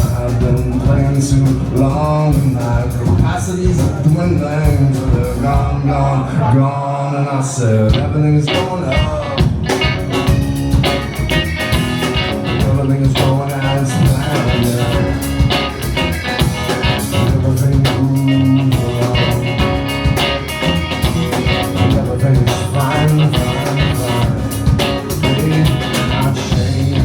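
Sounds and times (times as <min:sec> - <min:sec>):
live rock band playing: 0:00.0 - 0:06.0, 0:07.9 - 0:27.0
steady drum beat: 0:00.0 - 0:06.0, 0:07.9 - 0:27.0.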